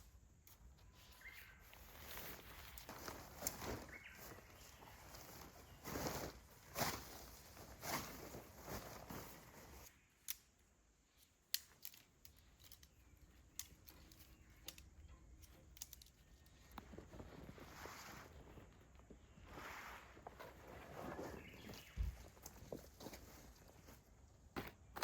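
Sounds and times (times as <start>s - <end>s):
rustling handling noises: 0.5s - 9.9s, 11.2s - 25.0s.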